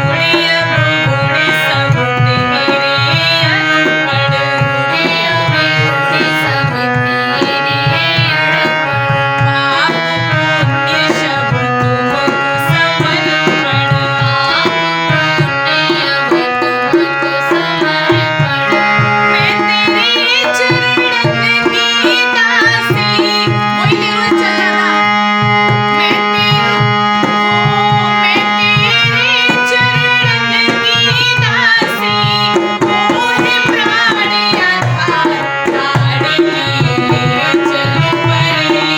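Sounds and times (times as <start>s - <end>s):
tabla playing fast rhythm: 0.0s - 38.9s.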